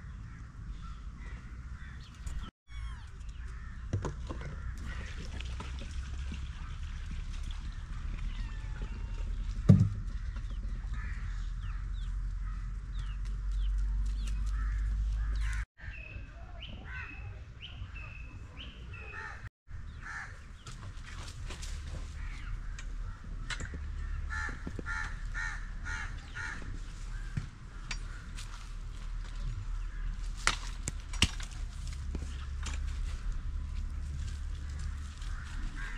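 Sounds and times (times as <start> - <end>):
birds calling: 0.0 - 5.4, 7.6 - 30.9, 33.5 - 35.9.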